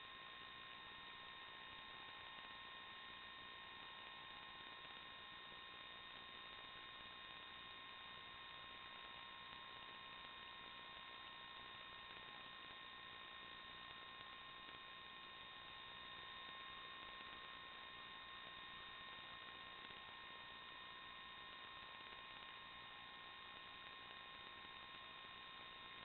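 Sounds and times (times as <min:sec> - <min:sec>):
faint electronic hiss: 0:00.0 - 0:26.0.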